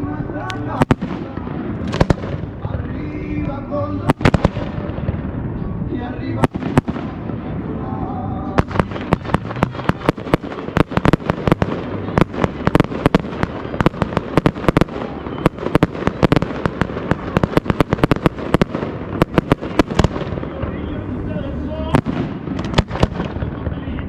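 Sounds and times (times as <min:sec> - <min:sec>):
low rumble of bursts: 0:00.0 - 0:24.0
fireworks cracks and bangs: 0:00.4 - 0:05.5, 0:06.3 - 0:07.8, 0:08.5 - 0:24.0.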